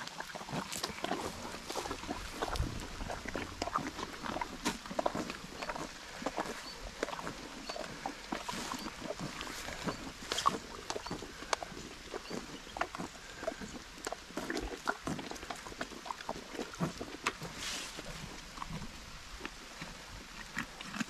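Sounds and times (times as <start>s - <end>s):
donkeys crunching watermelon rind: 0.0s - 21.0s.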